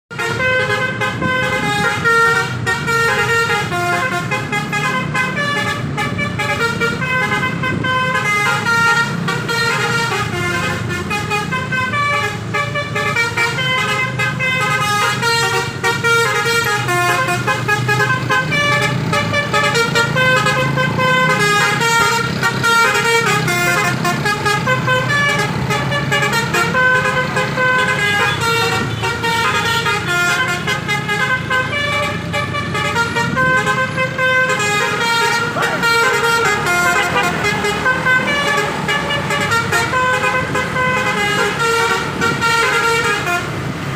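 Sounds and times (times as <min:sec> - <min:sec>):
bus engine running: 0:00.1 - 0:43.9
musical bus horn playing a tune: 0:00.1 - 0:43.9.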